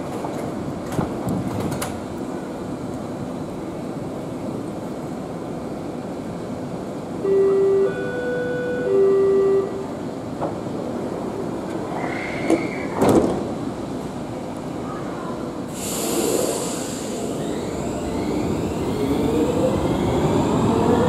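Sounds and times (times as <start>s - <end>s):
train rumbling: 0.0s - 9.0s, 9.7s - 21.0s.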